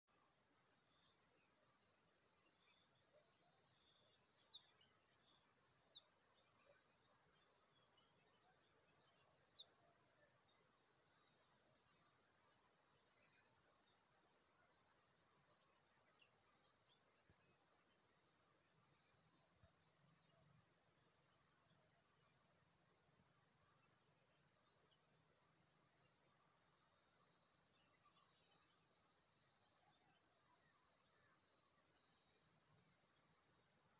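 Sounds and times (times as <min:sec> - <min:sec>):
insects chirring: 0:00.1 - 0:33.9.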